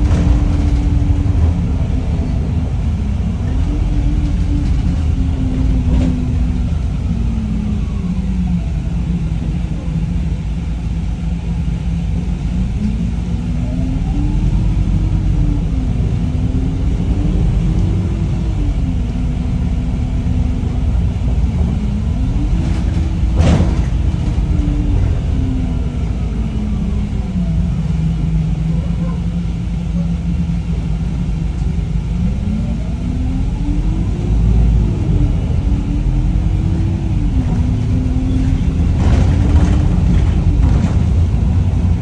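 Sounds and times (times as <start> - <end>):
bus diesel engine and road rumble: 0.0 - 42.0.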